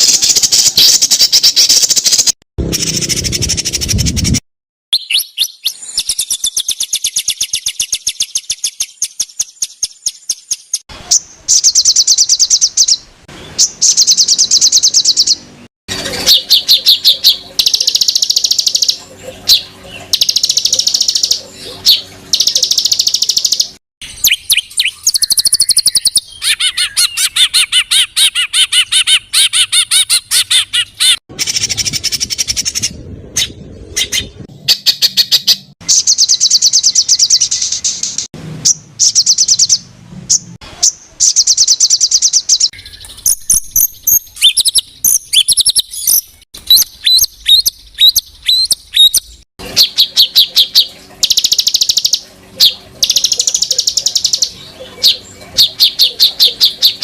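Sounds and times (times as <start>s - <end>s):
songbird trills: 4.9s - 57.0s.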